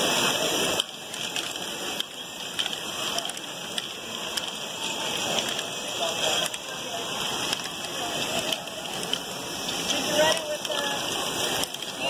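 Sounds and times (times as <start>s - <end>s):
plastic balls rattling through conveyors: 0.0s - 12.0s
balls clicking against plastic parts: 0.7s - 12.0s.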